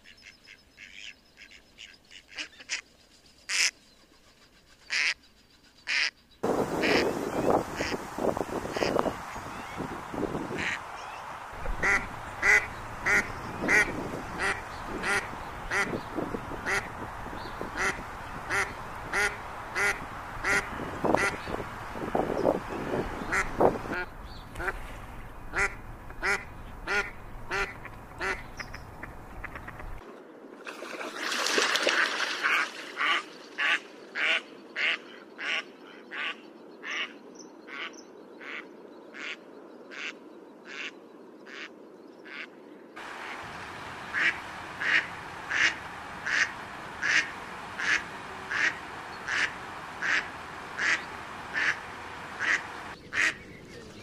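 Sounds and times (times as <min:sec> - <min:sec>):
ducks calling: 0:00.0 - 0:02.8, 0:03.5 - 0:03.7, 0:04.9 - 0:05.2, 0:05.8 - 0:30.0, 0:32.0 - 0:41.7, 0:42.3 - 0:54.0.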